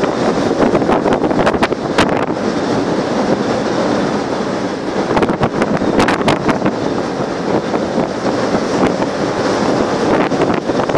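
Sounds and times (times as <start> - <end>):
heavy sea running: 0.0 - 10.9
strong wind buffeting microphone: 0.0 - 10.9.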